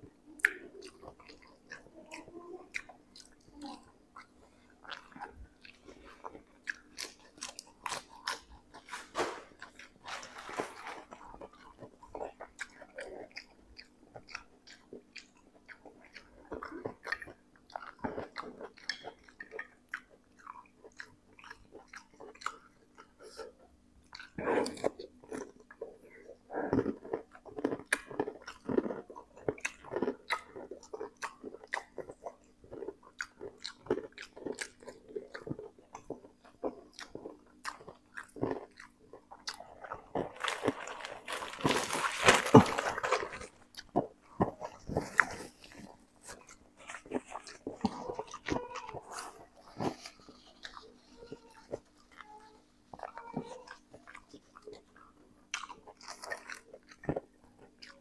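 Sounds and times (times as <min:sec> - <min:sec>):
crunching and wet mouth sounds: 0:00.0 - 0:58.0
man chewing food: 0:00.0 - 0:58.0.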